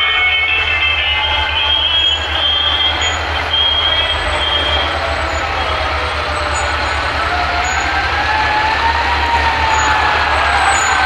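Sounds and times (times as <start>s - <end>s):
loud rough horn blast: 0.0s - 11.0s
siren rising in pitch: 0.0s - 11.0s
steady high tone: 0.0s - 11.0s.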